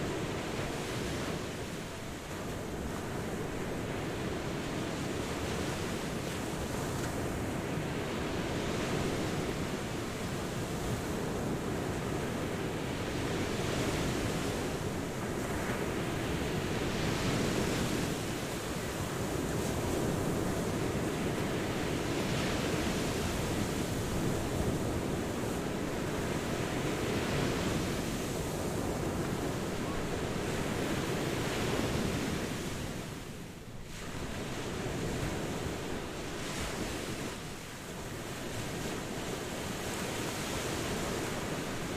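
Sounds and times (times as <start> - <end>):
ocean surf washing on shore: 0.0 - 41.9.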